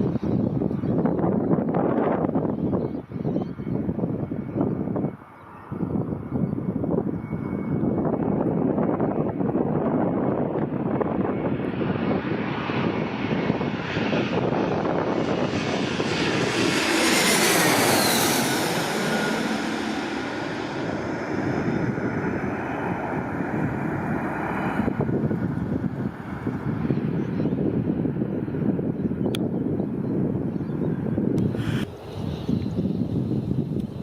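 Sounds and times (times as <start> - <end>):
jet airliner flying past: 0.0 - 34.0
wind buffeting microphone: 0.0 - 34.0.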